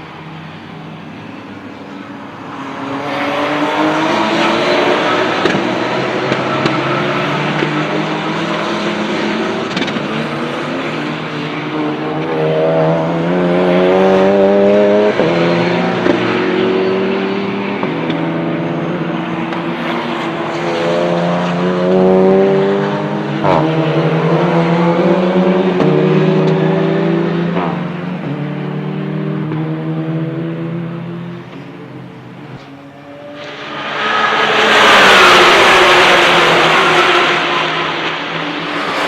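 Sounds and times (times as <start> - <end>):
race car engines accelerating: 0.0 - 39.0.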